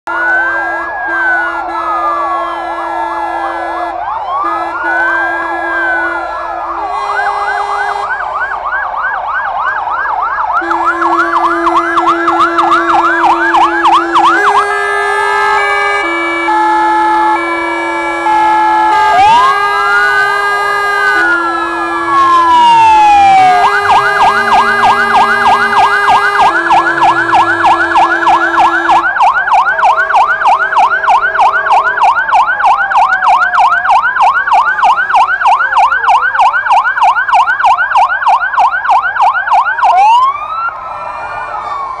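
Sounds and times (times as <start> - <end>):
fire engine siren wail: 0.0 - 42.0
siren yelp: 0.1 - 42.0.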